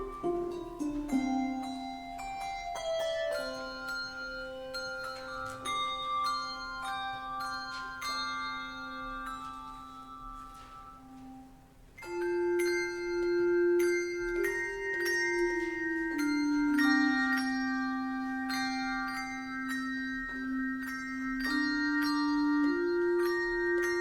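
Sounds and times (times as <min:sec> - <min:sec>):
handbell choir playing: 0:00.0 - 0:11.2, 0:12.0 - 0:24.0.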